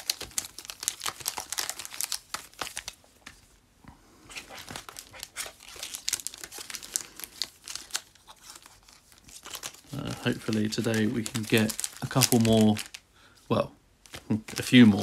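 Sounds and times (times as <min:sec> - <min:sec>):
foil wrappers crinkling: 0:00.0 - 0:03.0, 0:04.3 - 0:13.0, 0:14.0 - 0:15.0.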